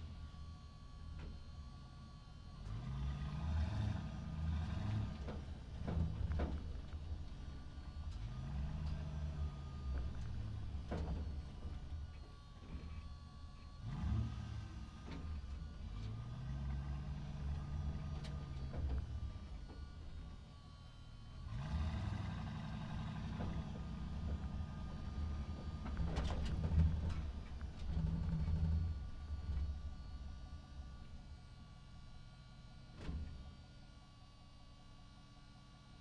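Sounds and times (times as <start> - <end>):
truck engine driving: 0.0 - 33.6.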